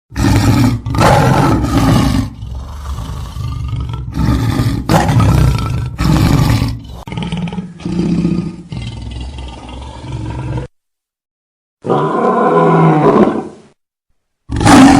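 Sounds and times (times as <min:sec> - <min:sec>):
lion roaring: 0:00.1 - 0:10.7, 0:11.8 - 0:13.6, 0:14.5 - 0:14.9.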